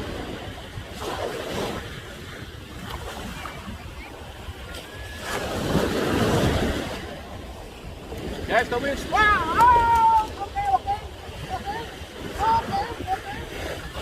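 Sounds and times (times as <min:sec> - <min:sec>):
ocean waves breaking on shore: 0:00.0 - 0:14.0.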